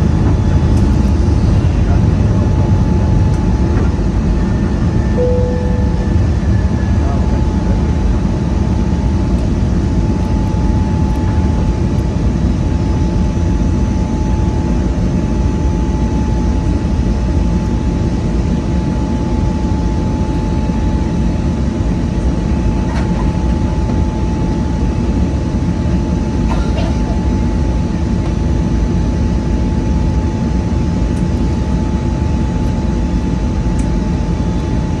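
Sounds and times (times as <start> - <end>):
high jet engine whine: 0.0 - 35.0
jet engine roar: 0.0 - 35.0.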